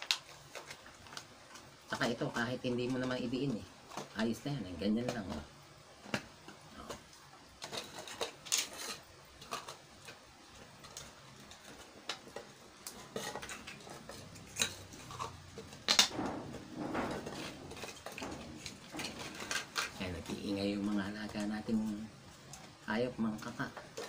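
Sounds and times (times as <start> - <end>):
plastic cups clicking and clattering: 0.0 - 24.0
rustling: 0.0 - 24.0.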